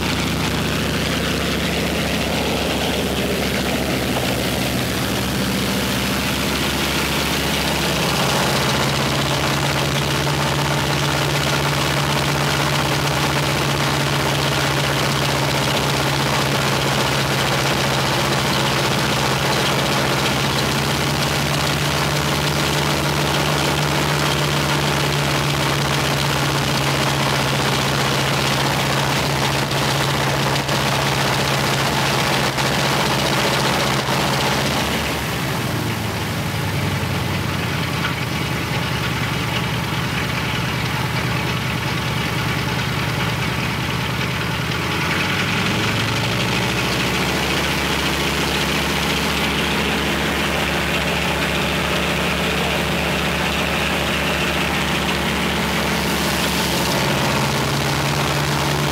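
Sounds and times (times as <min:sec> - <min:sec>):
radial piston engine running: 0:00.0 - 0:58.9.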